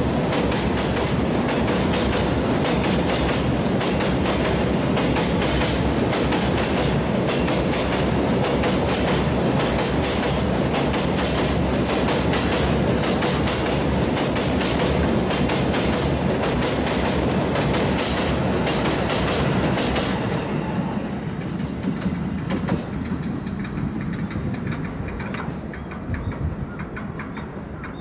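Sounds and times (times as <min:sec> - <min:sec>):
freight train rumbling past: 0:00.0 - 0:28.0
wheels clacking over rail joints: 0:00.0 - 0:28.0.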